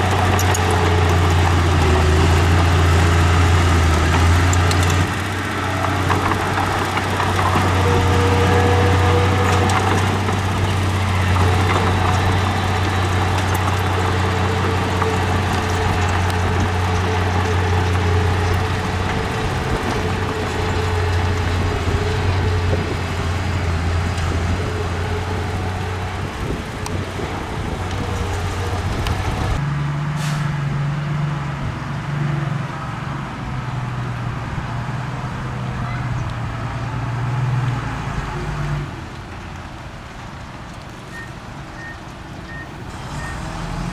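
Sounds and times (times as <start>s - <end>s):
diesel machinery droning: 0.0s - 43.9s.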